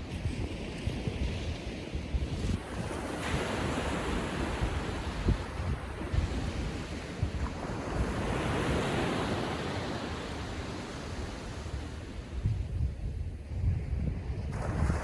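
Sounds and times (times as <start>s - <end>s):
small waves breaking on sand: 0.0s - 12.4s, 14.4s - 15.0s
wind buffeting microphone: 0.0s - 15.0s.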